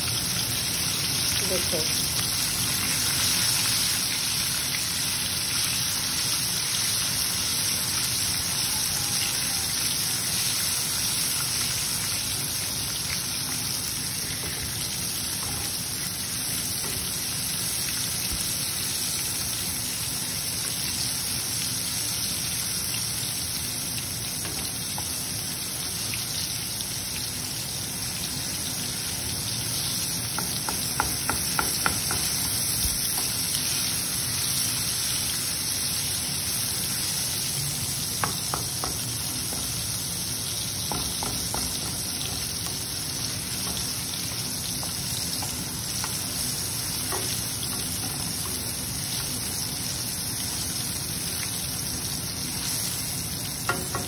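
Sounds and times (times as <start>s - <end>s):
spices sizzling in hot oil: 0.0s - 54.0s.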